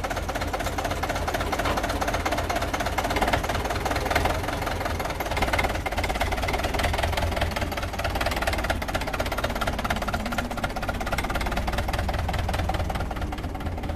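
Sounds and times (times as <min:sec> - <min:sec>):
diesel tractor engine idling: 0:00.0 - 0:13.9.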